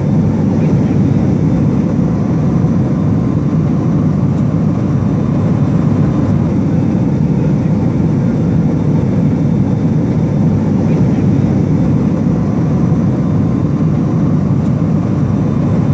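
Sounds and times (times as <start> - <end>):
aircraft engine drone: 0.0 - 15.9.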